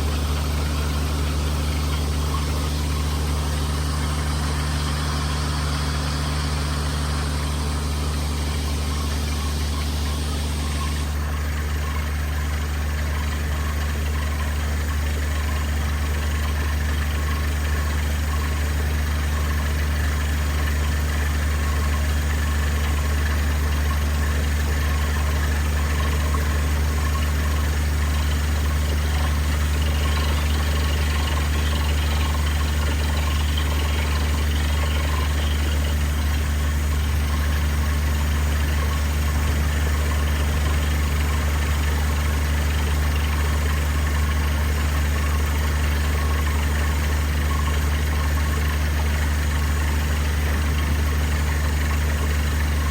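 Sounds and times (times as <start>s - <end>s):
drilling rig engine humming: 0.0s - 52.9s.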